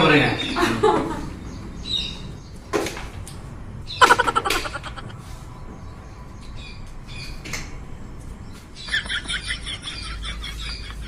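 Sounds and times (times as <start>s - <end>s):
small birds chirping: 0.0s - 3.2s, 3.8s - 11.0s.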